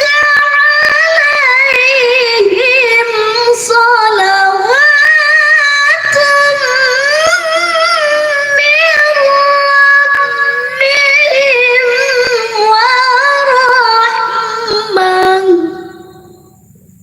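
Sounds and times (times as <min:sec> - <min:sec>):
woman reciting melodically: 0:00.0 - 0:16.6.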